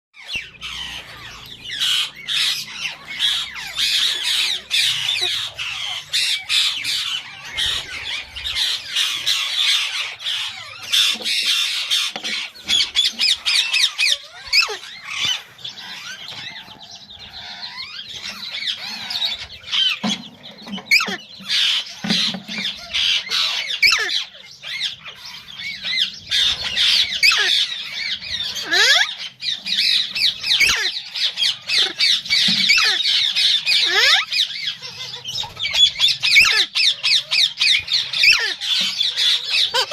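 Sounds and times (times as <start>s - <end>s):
parakeets squawking and chattering: 0.2s - 39.9s.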